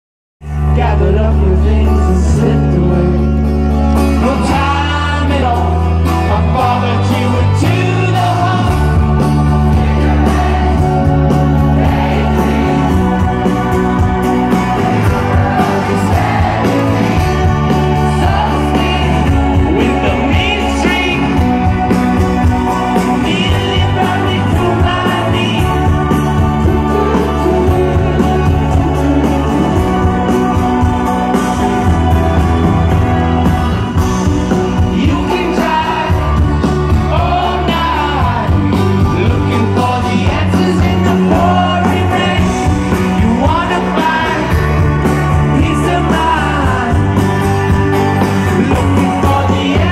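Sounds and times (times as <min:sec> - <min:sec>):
rock band playing live: 0:00.4 - 0:49.9
lead vocals singing: 0:04.0 - 0:49.9.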